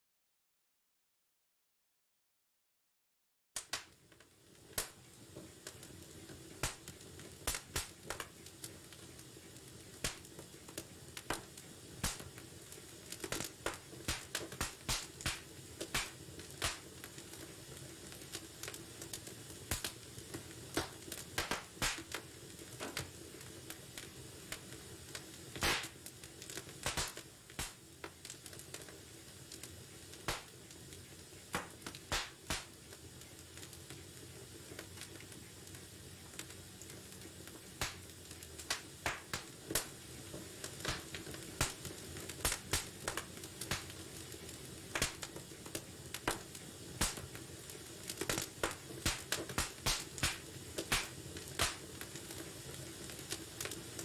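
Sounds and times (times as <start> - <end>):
wood fire crackling and popping: 3.6 - 54.0.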